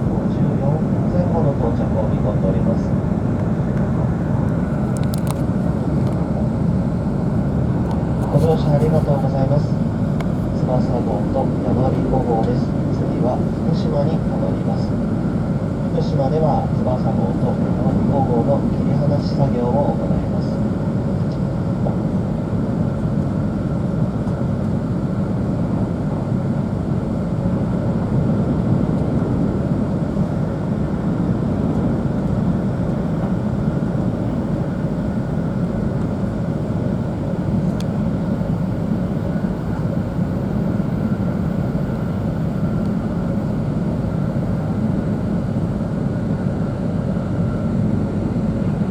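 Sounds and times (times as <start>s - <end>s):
faint high hum: 0.0s - 22.7s, 25.0s - 48.9s
train rumbling on track: 0.0s - 26.2s, 26.9s - 46.6s.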